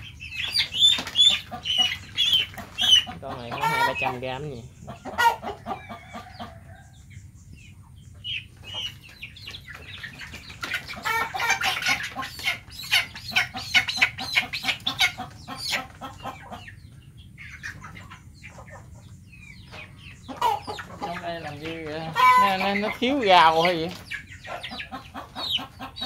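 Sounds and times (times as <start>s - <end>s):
chickens squawking and clucking: 0.0s - 26.0s.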